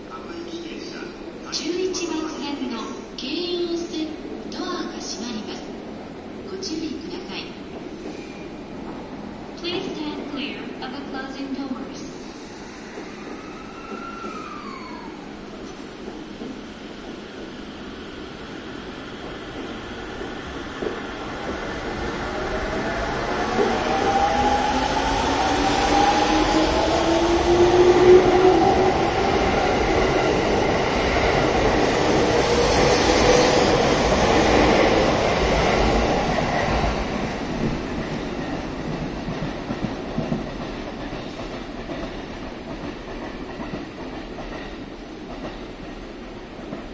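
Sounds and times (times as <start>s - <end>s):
train wheels on rails: 6.4s - 46.9s.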